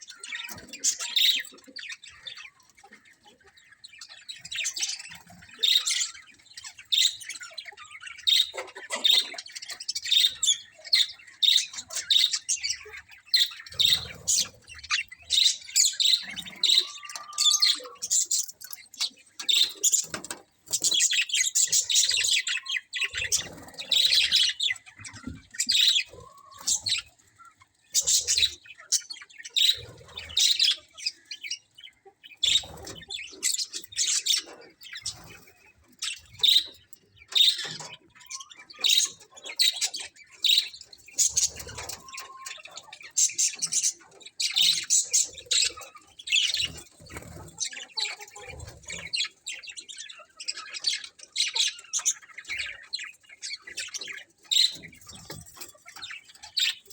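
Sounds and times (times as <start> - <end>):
budgerigars chirping and chattering: 0.0 - 56.9.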